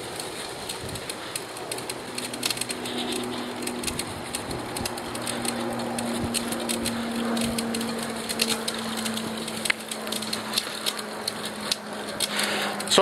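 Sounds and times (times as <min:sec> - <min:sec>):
bicycle tyres rumbling on pavement: 0:00.0 - 0:13.0
small crackles and clicks: 0:00.0 - 0:13.0
steady low hum: 0:00.0 - 0:13.0.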